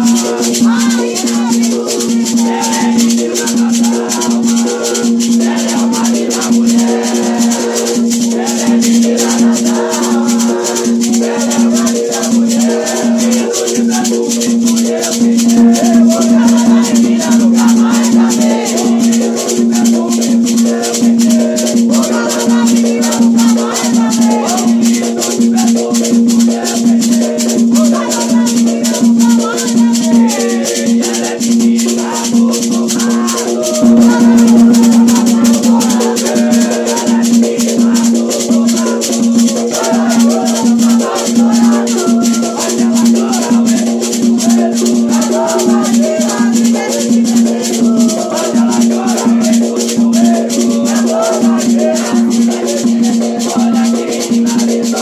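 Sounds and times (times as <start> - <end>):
rattling shaker: 0.0 - 55.0
rhythmic percussion: 0.0 - 55.0
voices singing: 0.0 - 55.0.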